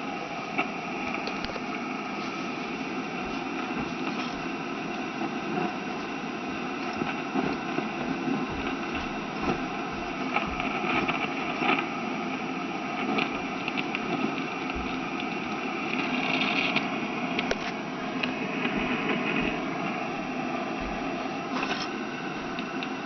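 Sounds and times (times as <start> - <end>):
crackles and clicks: 0.0 - 23.0
radio static hiss: 0.0 - 23.0.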